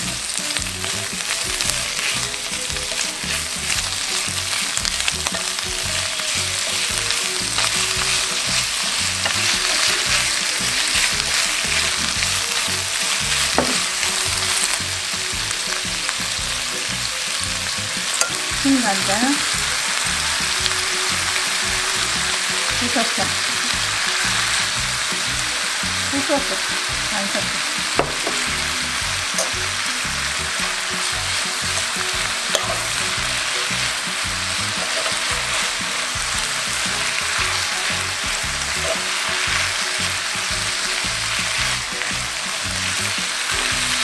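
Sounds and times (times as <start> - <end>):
meat sizzling in a pan: 0.0 - 44.0.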